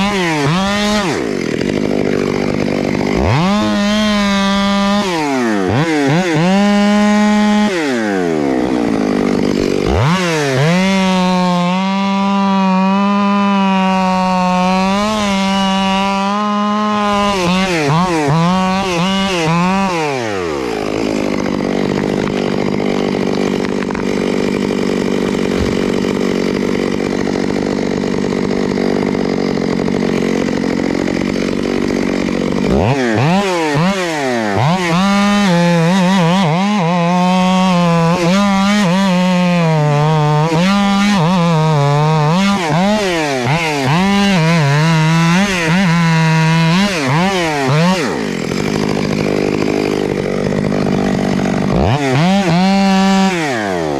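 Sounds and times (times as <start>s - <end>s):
chainsaw idling and cutting wood: 0.0s - 53.9s.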